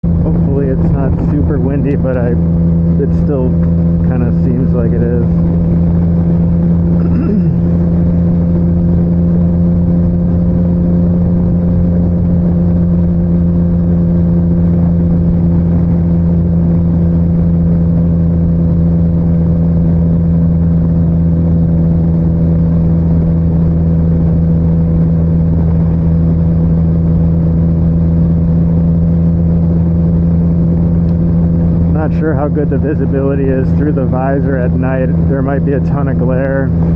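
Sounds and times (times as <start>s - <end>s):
motorcycle engine cruising: 0.0s - 36.9s
road noise: 0.0s - 36.9s
wind noise: 0.0s - 36.9s.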